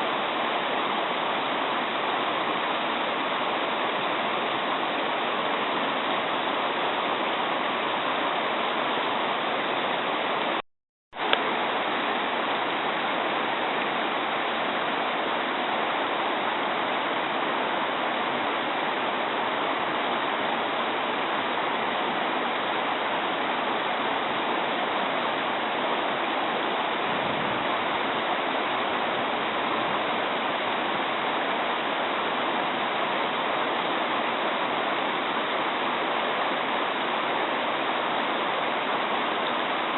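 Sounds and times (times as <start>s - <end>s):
stream babbling: 0.0s - 10.6s, 11.2s - 39.9s.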